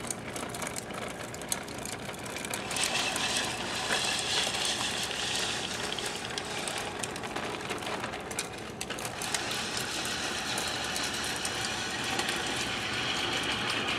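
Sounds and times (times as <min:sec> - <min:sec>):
toy truck wheels rolling on concrete: 0:00.0 - 0:13.9.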